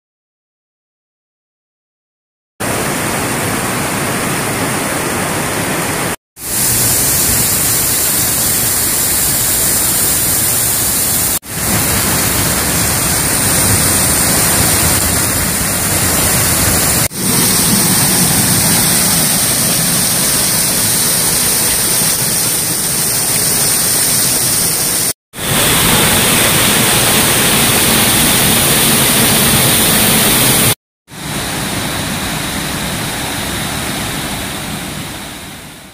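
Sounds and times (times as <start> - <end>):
waterfall rushing onto rocks: 2.6 - 35.5.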